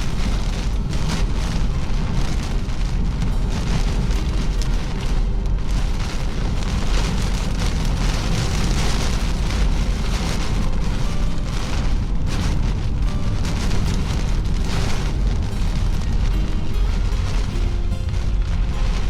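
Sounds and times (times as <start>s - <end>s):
rain hissing: 0.0s - 19.0s
wind gusting over microphone: 0.0s - 19.0s.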